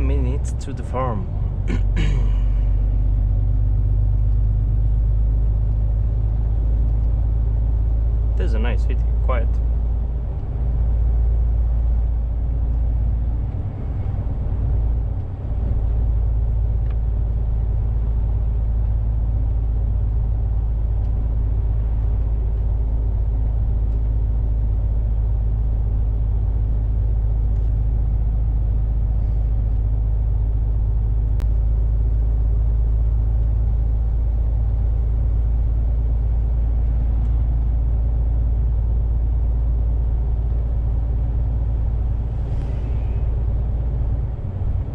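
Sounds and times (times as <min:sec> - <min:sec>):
lorry engine rumble: 0:00.0 - 0:44.9
road noise: 0:00.0 - 0:44.9.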